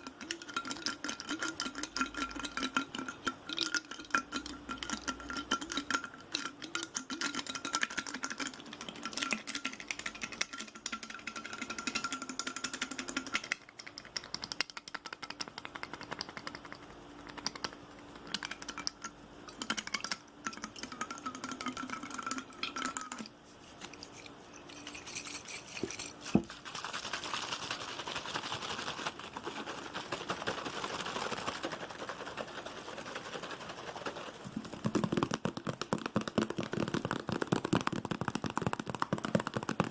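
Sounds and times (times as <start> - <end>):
rapid tapping on objects: 0.0 - 39.9.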